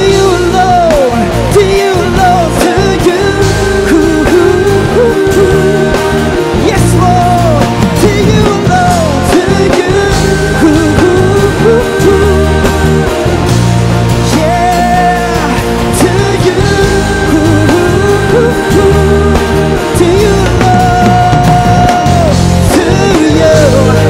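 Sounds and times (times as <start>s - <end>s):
bass guitar: 0.0s - 24.0s
drums: 0.0s - 24.0s
person singing: 0.0s - 24.0s.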